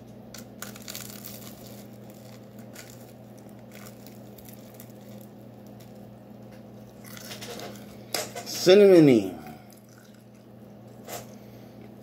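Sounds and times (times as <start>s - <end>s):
crunchy cookie chewing: 0.3s - 8.0s, 9.4s - 11.5s.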